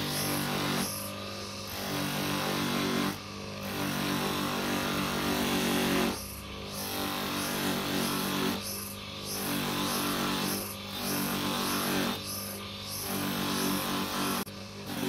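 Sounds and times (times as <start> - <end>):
small electric motor running: 0.0 - 15.0.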